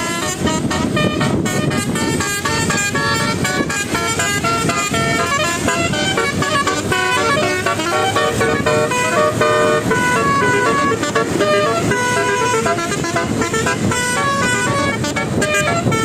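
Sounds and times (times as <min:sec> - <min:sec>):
bus melody horn playing: 0:00.0 - 0:16.0
steady low rumble: 0:00.0 - 0:16.0.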